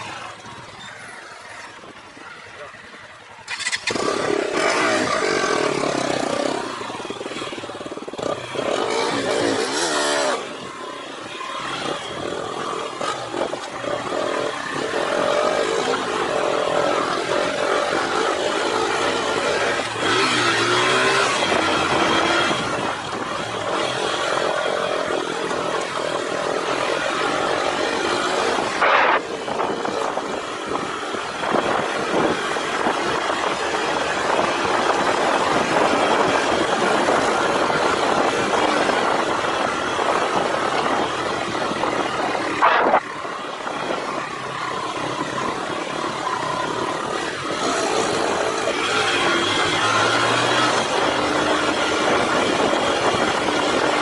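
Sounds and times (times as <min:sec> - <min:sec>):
motorcycle engine running: 0:00.0 - 0:54.0
wind and road rush: 0:00.0 - 0:54.0.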